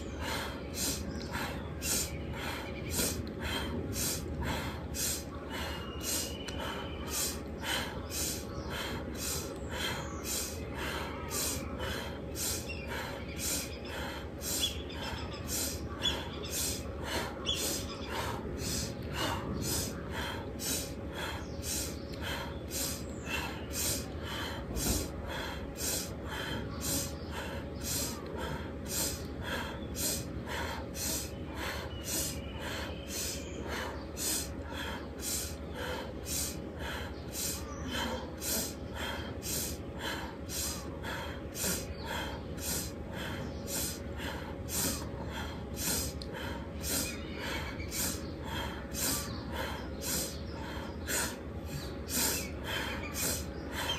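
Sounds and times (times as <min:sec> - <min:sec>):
rapid forceful breathing: 0:00.0 - 0:53.9.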